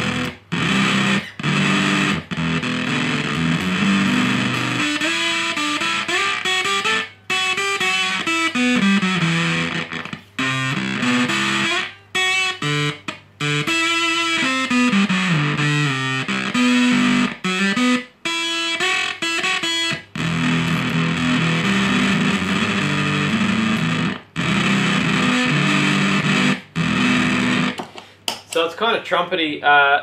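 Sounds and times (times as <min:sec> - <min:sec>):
fuzz electric guitar: 0:00.0 - 0:27.8.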